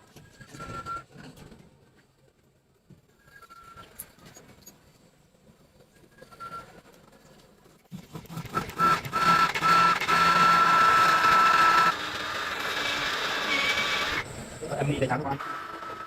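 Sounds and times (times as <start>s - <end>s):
small machine whining: 0.0s - 1.4s, 3.1s - 4.8s, 5.6s - 16.0s.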